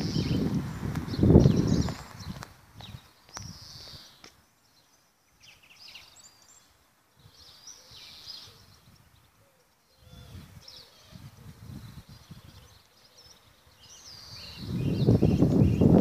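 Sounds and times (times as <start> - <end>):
songbirds chirping and singing: 0.0 - 16.0.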